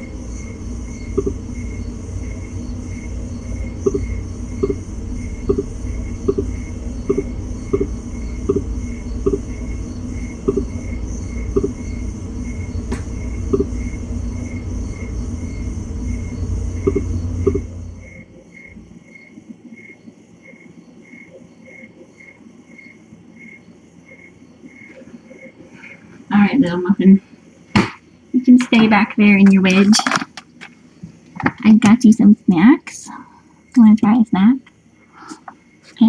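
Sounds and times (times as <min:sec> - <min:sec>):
low hum: 0:00.0 - 0:30.7.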